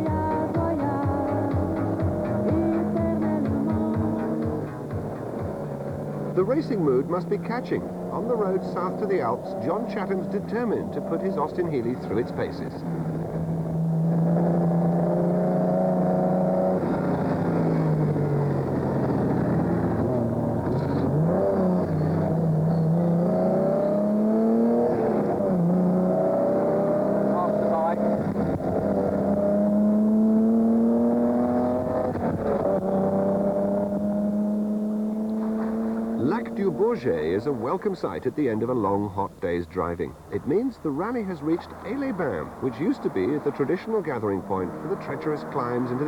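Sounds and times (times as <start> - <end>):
sports car engine running hard: 0.0 - 46.0.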